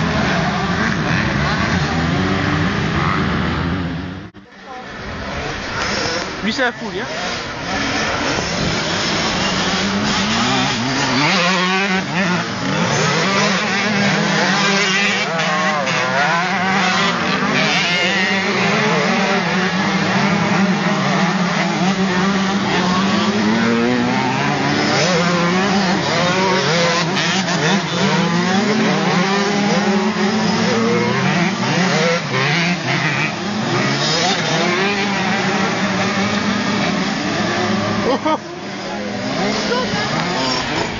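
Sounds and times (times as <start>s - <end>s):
dirt bike engines racing: 0.0s - 40.9s.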